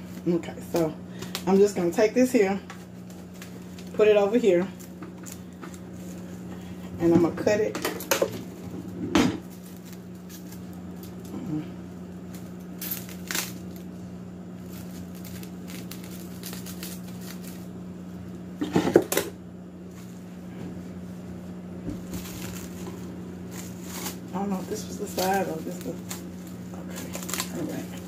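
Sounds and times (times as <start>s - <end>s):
cling wrap crinkling: 0.0s - 6.8s, 8.4s - 18.5s, 19.8s - 28.0s
steady low hum: 0.0s - 28.0s.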